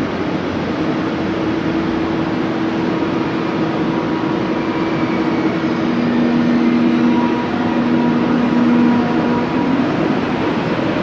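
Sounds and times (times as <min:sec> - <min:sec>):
train hum: 0:00.0 - 0:11.0
train rushing noise: 0:00.0 - 0:11.0.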